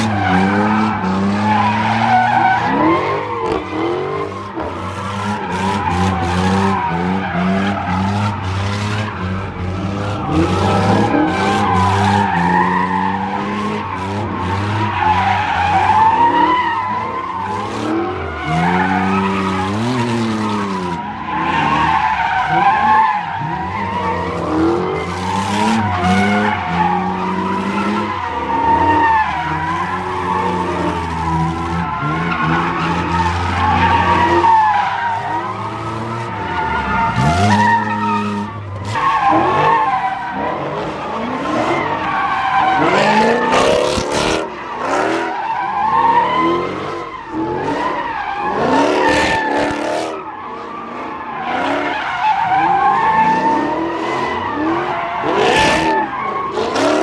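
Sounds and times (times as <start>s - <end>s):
car engines revving: 0.0s - 57.0s
tires squealing: 0.0s - 57.0s.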